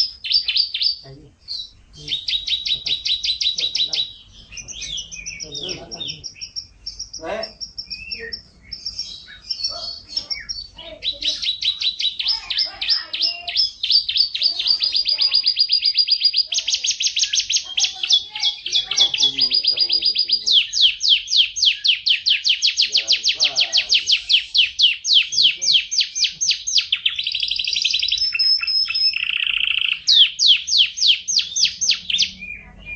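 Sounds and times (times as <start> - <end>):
canary singing trills: 0.0 - 32.9.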